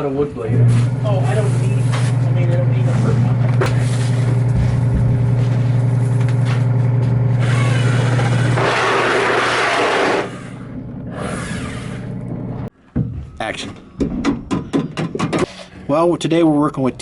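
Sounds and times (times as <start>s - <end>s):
machine humming and rumbling: 0.0s - 17.0s.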